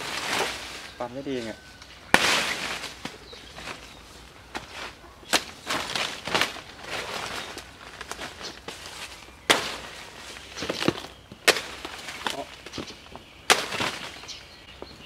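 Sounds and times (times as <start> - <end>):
dry leaves rustling: 0.0 - 14.8.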